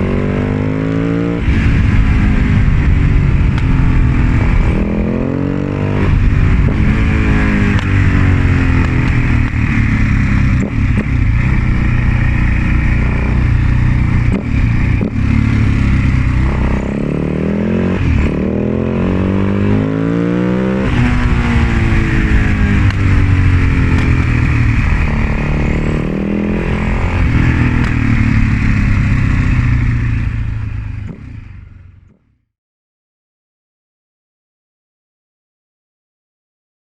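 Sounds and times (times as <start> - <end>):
motorcycle engine revving: 0.0 - 32.4.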